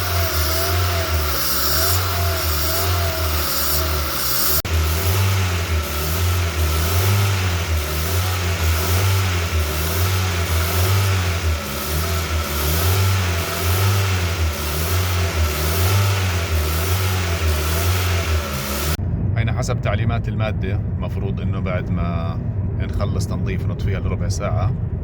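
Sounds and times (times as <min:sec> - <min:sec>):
car engine revving up and down: 0:00.0 - 0:25.0.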